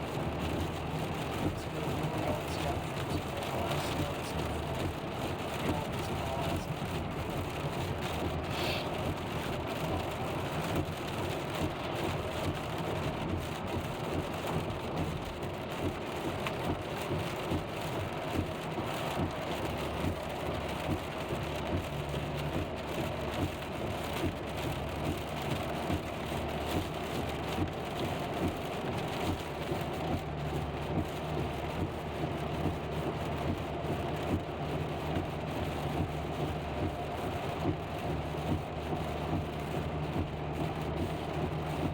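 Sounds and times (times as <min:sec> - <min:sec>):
car engine: 0:00.0 - 0:41.9
rain hitting a car: 0:00.0 - 0:41.9
road noise: 0:00.0 - 0:41.9.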